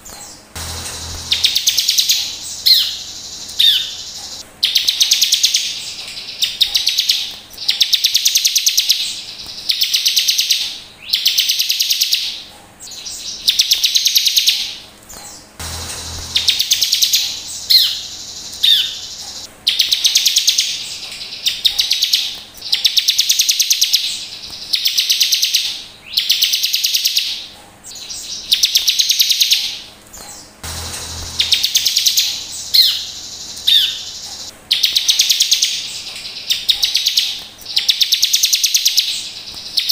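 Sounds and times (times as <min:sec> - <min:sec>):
bird buzzy trills: 0:00.0 - 0:39.9.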